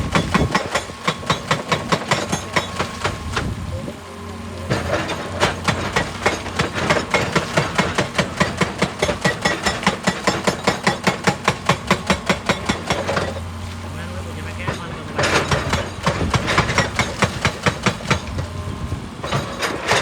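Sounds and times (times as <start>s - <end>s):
excavator diesel engine running: 0.0s - 20.0s
hydraulic breaker hammering rock: 0.0s - 20.0s.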